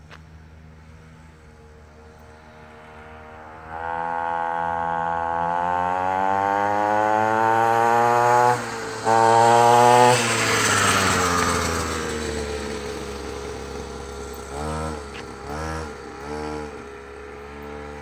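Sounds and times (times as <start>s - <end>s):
dirt bike engine approaching: 0.0s - 18.0s.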